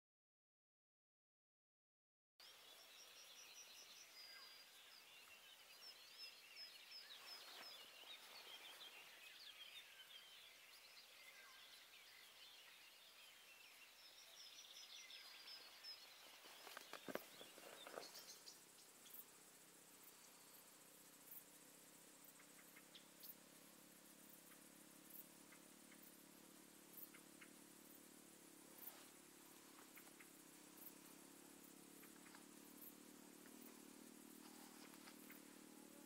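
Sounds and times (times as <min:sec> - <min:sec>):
faint birdsong: 0:02.4 - 0:36.0.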